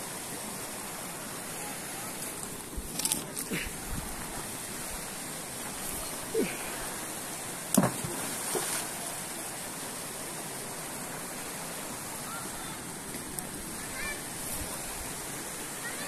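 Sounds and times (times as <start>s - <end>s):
river water rushing over stones: 0.0s - 16.0s.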